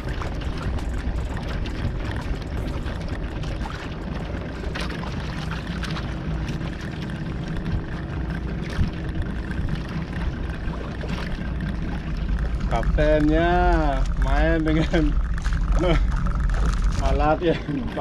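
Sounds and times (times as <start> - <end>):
low rumble: 0.0 - 18.0
water splashing against boat hull: 0.0 - 18.0.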